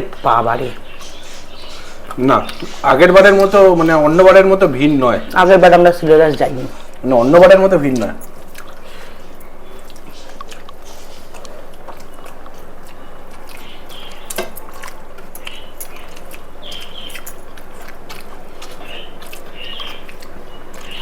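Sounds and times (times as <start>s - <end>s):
wet chewing: 0.1s - 21.0s.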